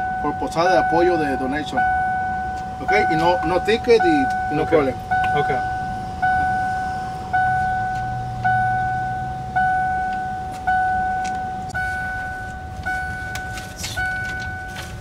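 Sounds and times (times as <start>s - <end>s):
dashboard warning chime dinging: 0.0s - 15.0s.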